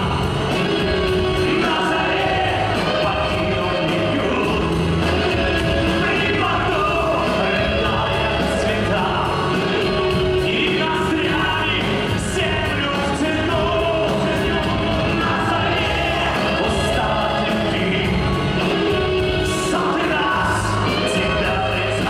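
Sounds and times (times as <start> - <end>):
live rock band playing ballad: 0.0 - 22.0
man singing: 0.0 - 22.0.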